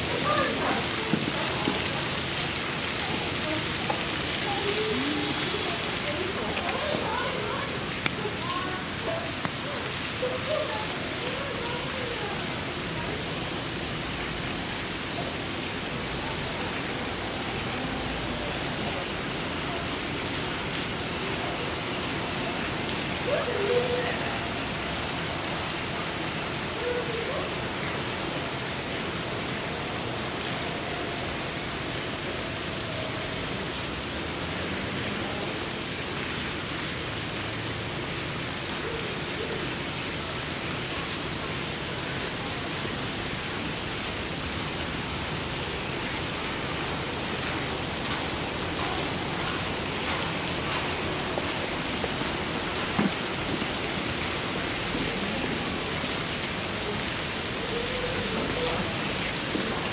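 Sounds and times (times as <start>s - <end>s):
faint distant voices: 0.0s - 33.8s, 45.6s - 59.9s.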